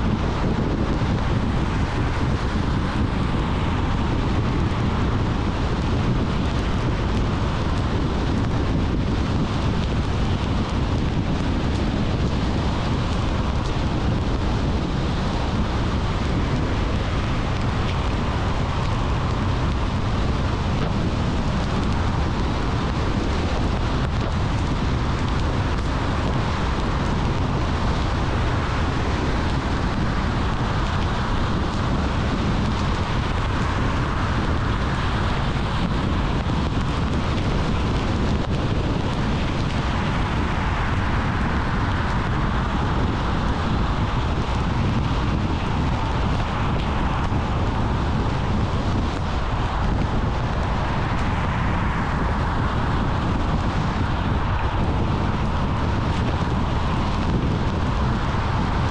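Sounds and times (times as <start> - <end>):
car road and wind noise: 0.0 - 58.9.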